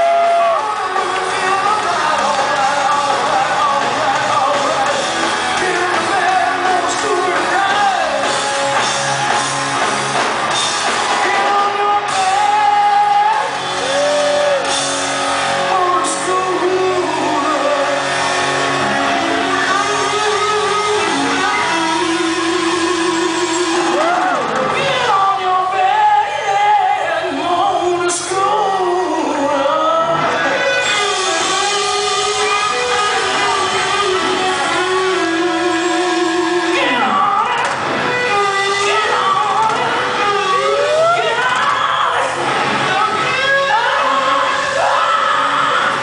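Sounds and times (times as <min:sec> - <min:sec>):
sung vocals: 0:00.0 - 0:09.5, 0:10.4 - 0:46.0
electric guitar: 0:00.0 - 0:46.0
live rock band playing: 0:00.0 - 0:46.0.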